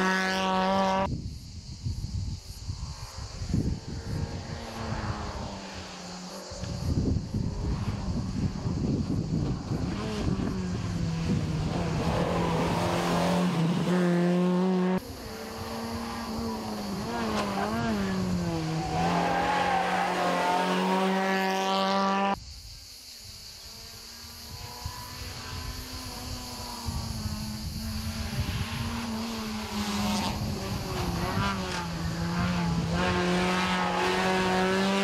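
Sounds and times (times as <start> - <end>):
rally car engines revving: 0.0 - 1.1, 3.8 - 22.4, 23.7 - 35.0.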